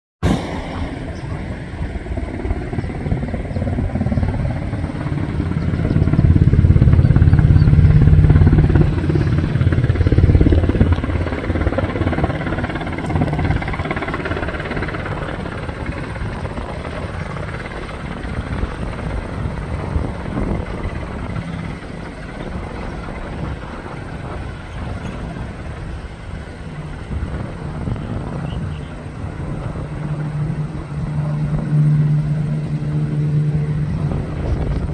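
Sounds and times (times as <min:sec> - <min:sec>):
helicopter engine noise: 0:00.2 - 0:34.9
helicopter rotor beating: 0:00.2 - 0:34.9.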